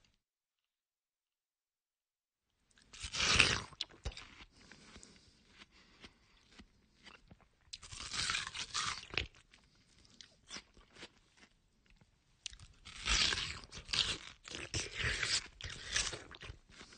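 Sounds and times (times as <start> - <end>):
person chewing watermelon: 2.8 - 16.9.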